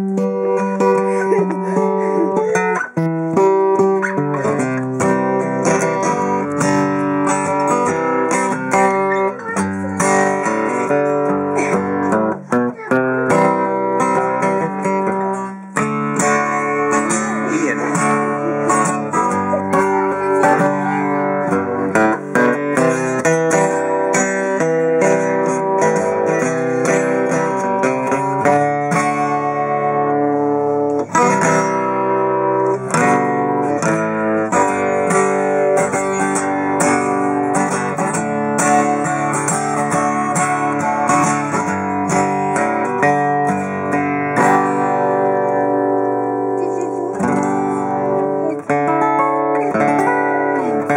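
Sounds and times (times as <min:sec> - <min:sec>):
acoustic guitar chords: 0:00.0 - 0:50.9.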